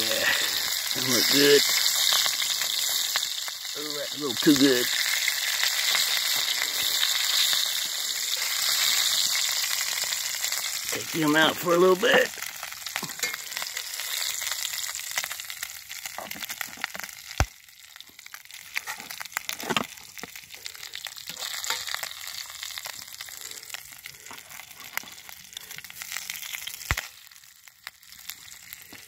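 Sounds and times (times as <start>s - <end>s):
meat sizzling in a skillet: 0.0s - 29.0s.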